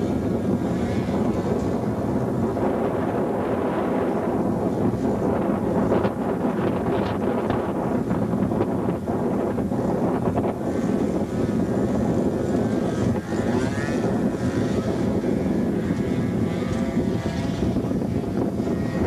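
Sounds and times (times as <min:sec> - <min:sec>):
model plane engine whining: 0:00.0 - 0:19.0
wind noise on microphone: 0:00.0 - 0:19.0.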